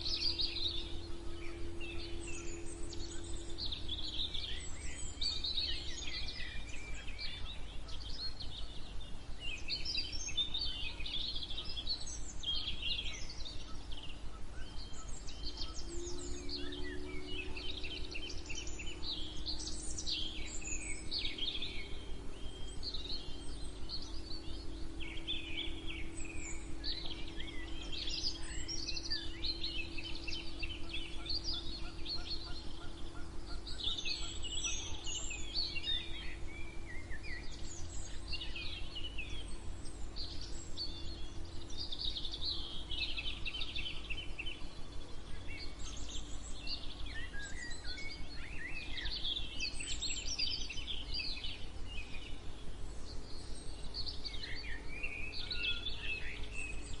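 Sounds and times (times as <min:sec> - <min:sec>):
low hum and rumble: 0:00.0 - 0:57.0
songbirds singing and calling: 0:00.0 - 0:57.0.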